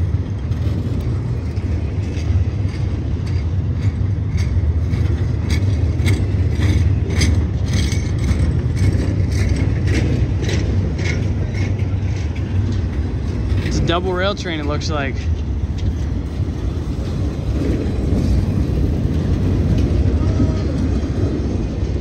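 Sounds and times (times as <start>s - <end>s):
rail clicks and squeaks: 0.0s - 22.0s
train cars rumbling past: 0.0s - 22.0s.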